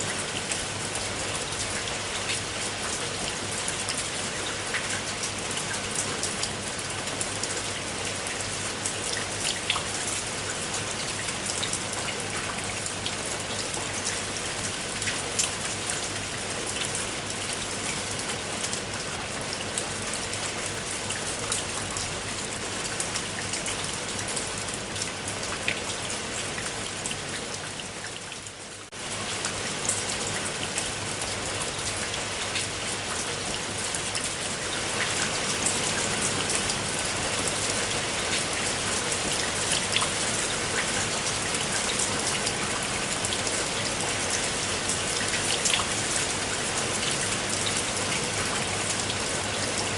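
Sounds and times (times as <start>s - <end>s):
rain drops ticking on surface: 0.0s - 49.9s.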